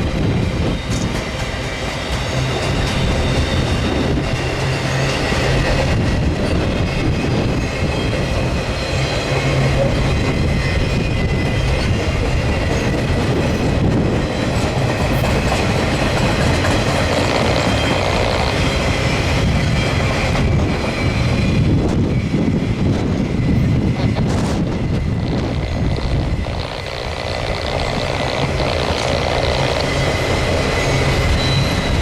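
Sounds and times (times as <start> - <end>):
train cars rumbling past: 0.0 - 32.0.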